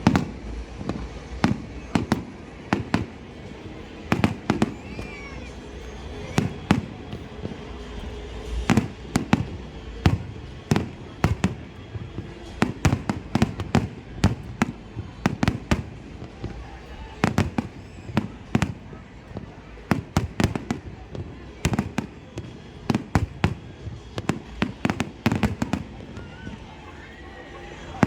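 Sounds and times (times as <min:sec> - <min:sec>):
firework whistling: 0:00.0 - 0:28.0
fireworks bangs: 0:00.0 - 0:28.0.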